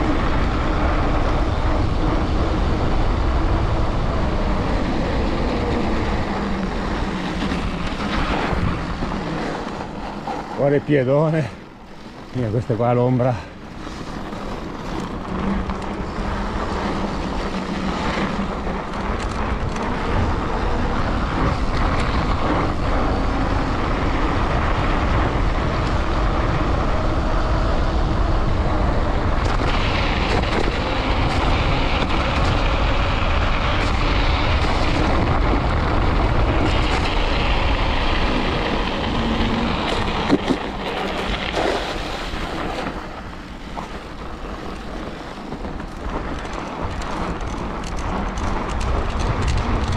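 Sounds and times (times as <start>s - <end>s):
bike tyres crunching on snow: 0.0s - 49.9s
wind on microphone: 0.0s - 49.9s.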